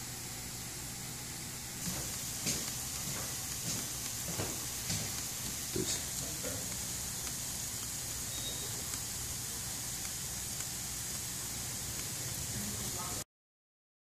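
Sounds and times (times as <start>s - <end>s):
water misters hissing: 1.6s - 13.2s.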